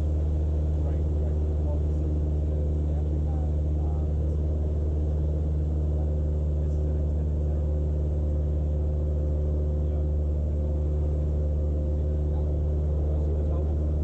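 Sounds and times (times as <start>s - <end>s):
aircraft engine and propeller droning: 0.0s - 14.0s.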